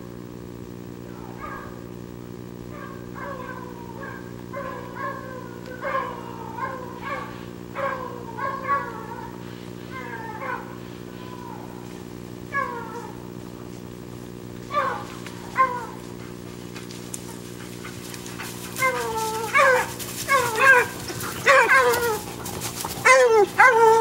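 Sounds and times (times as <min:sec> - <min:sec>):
steady low hum: 0:00.0 - 0:24.0
hounds baying: 0:01.0 - 0:02.0, 0:02.6 - 0:24.0.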